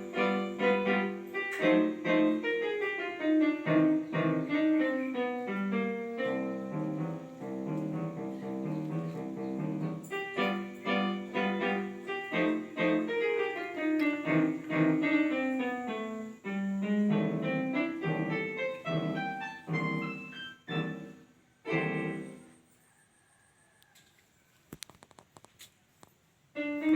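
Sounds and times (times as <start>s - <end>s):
piano music: 0.0s - 22.6s, 26.6s - 26.9s.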